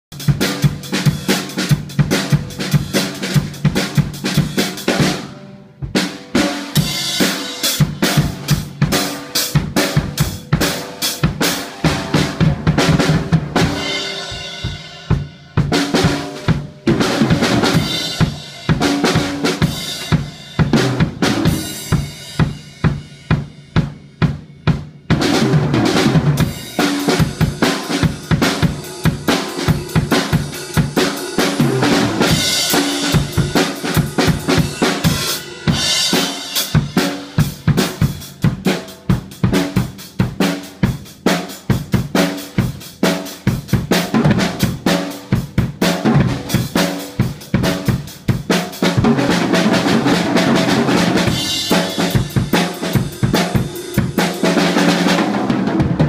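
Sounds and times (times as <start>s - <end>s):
drum solo on drum kit: 0.0s - 56.0s.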